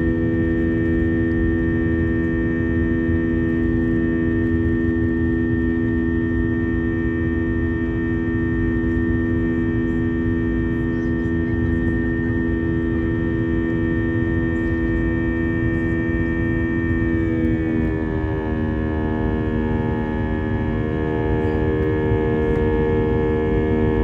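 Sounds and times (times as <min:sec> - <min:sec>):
jet engine drone in cabin: 0:00.0 - 0:24.0.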